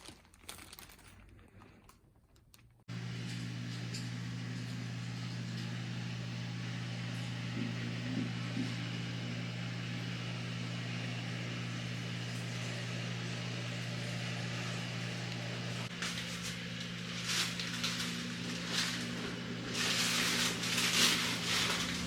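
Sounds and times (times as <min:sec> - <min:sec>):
low mechanical hum: 0:02.9 - 0:22.0.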